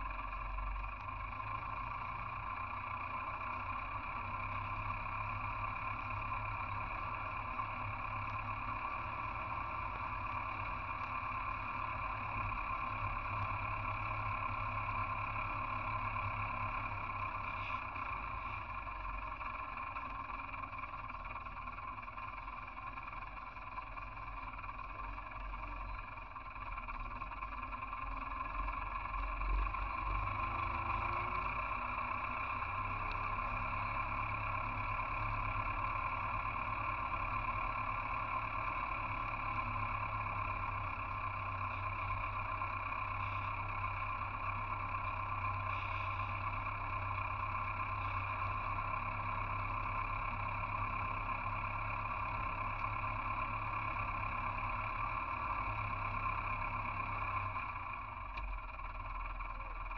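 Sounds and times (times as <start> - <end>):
tractor engine rumbling: 0.0 - 59.9.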